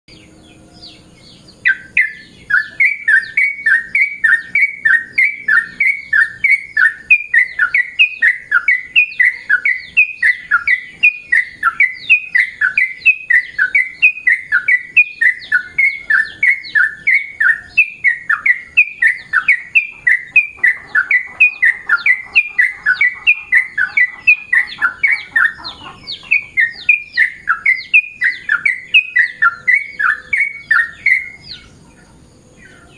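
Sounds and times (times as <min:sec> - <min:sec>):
bird calling downward-slurred notes: 0:00.1 - 0:32.9.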